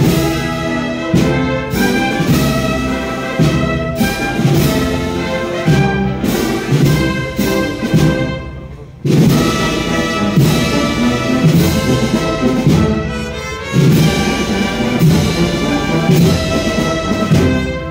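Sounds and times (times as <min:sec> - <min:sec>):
brass band playing march: 0:00.0 - 0:17.9
drum strokes: 0:00.0 - 0:17.9.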